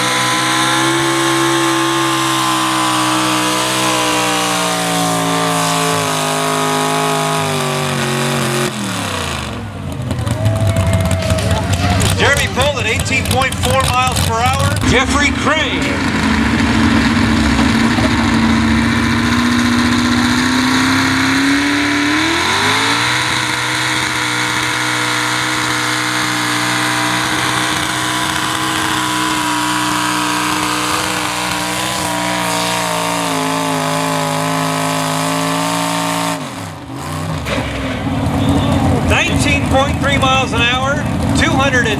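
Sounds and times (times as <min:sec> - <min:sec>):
truck engine at high revs: 0:00.0 - 0:41.9.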